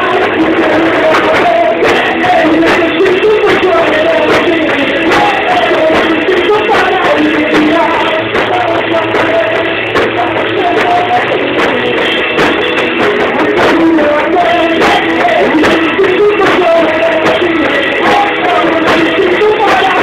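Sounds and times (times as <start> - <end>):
drums: 0.0 - 20.0
live band playing: 0.0 - 20.0
person singing: 0.0 - 20.0.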